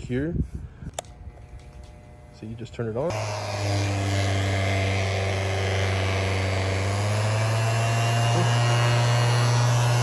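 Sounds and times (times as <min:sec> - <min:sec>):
palm sander running: 0:01.2 - 0:10.0.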